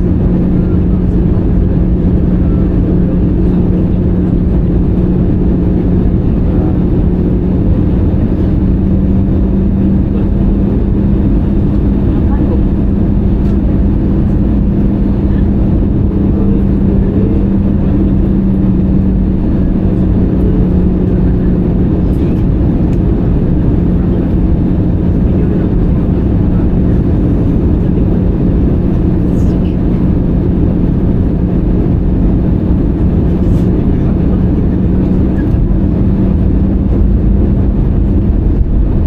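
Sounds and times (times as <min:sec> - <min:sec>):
aircraft cabin engine drone: 0:00.0 - 0:39.0.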